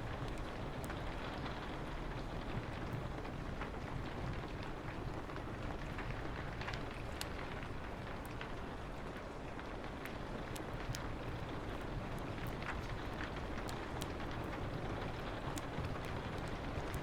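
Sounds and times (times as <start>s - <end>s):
rain falling on a window: 0.0s - 17.0s
wood fire crackling and popping: 0.0s - 17.0s.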